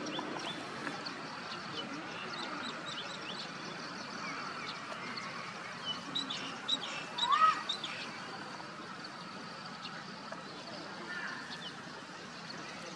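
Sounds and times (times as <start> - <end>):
outdoor background hiss: 0.0 - 12.9
small birds chirping: 0.0 - 12.9.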